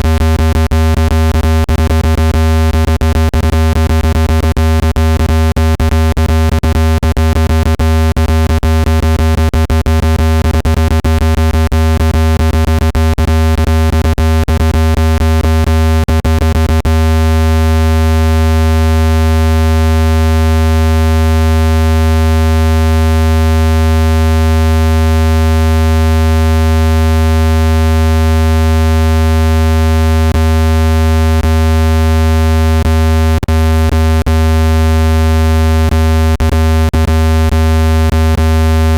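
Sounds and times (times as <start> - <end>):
low-pitched synthesized buzz tone: 0.0 - 38.9.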